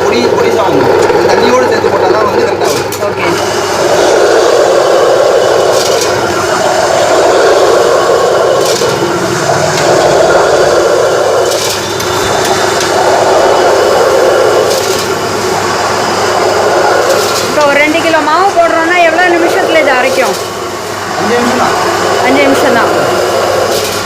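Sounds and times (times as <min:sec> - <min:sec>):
electric grinding mill running: 0:00.0 - 0:24.0.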